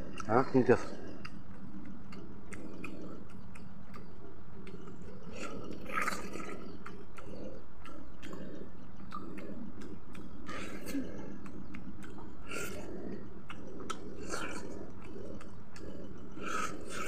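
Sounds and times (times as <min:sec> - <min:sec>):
chewing and lip-smacking: 0:00.0 - 0:17.0
loud bite: 0:00.0 - 0:17.0
mouth clicks: 0:00.0 - 0:17.0.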